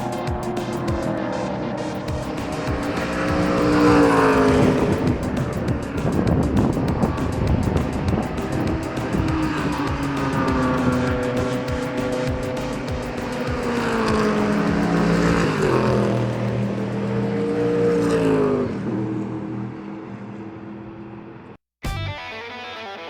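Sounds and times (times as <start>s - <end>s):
race car engines passing: 0.0s - 21.6s.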